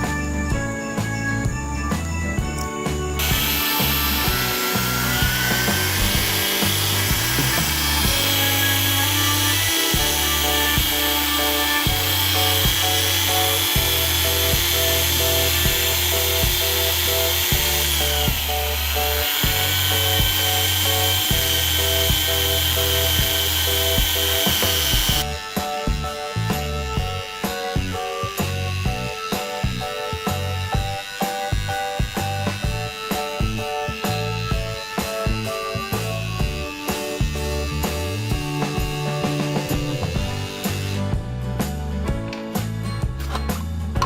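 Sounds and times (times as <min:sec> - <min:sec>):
background music with bass line: 0:00.0 - 0:44.0
small motor whining: 0:02.6 - 0:41.2.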